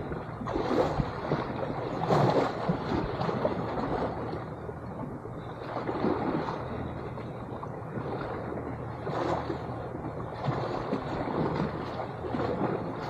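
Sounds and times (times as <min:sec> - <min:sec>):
muffled seawater sloshing: 0:00.0 - 0:13.0
small waves surging: 0:00.0 - 0:13.0.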